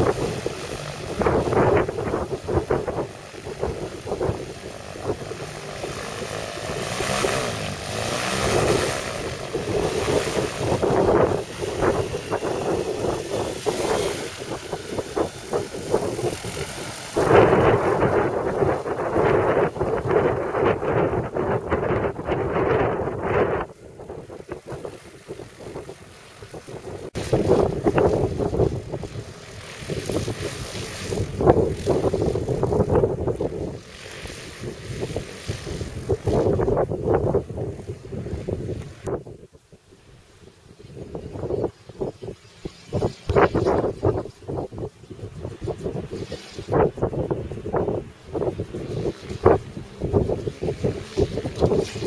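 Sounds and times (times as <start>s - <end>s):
aircraft engine and propeller: 0.0s - 52.0s
wind buffeting microphone: 0.0s - 52.0s.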